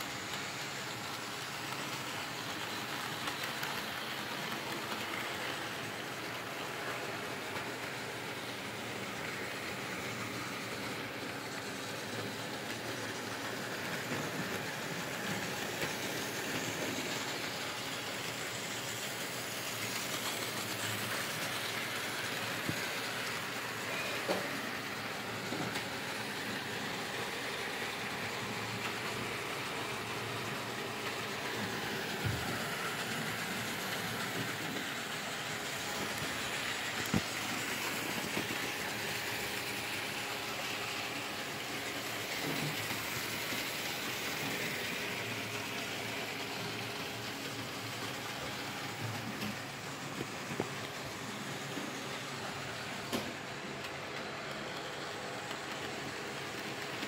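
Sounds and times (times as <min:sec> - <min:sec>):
model trains whirring and rattling: 0:00.0 - 0:57.0.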